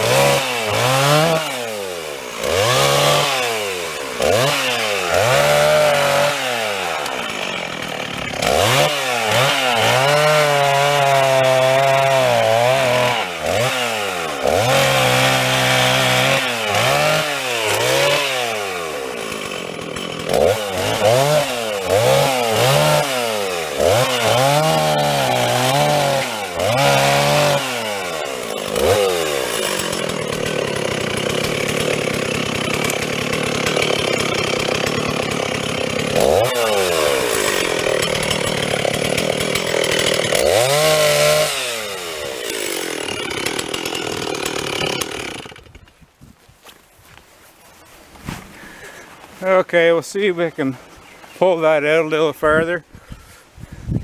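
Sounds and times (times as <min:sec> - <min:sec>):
chainsaw revving cutting wood: 0:00.0 - 0:46.0, 0:48.4 - 0:50.7.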